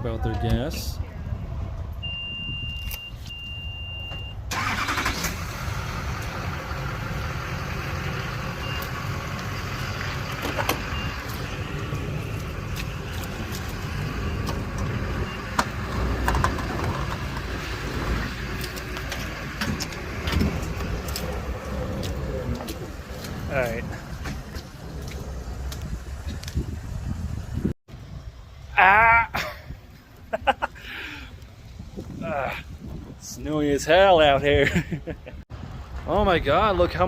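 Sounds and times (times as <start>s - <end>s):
vehicles running: 0.0s - 37.0s.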